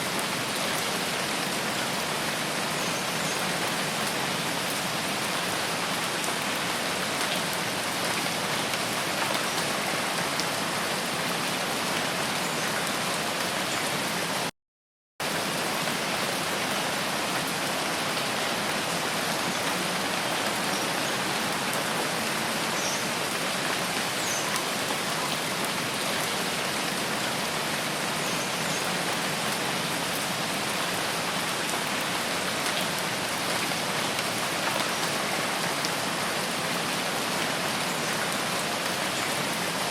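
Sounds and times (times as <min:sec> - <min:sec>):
steady rain falling: 0:00.0 - 0:14.5, 0:15.2 - 0:39.9.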